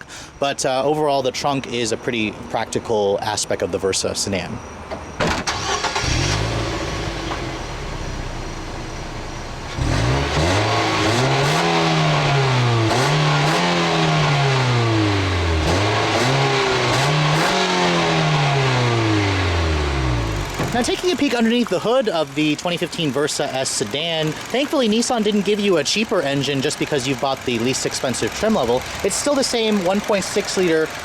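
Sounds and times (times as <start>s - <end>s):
car engine idling and revving: 4.6s - 31.0s.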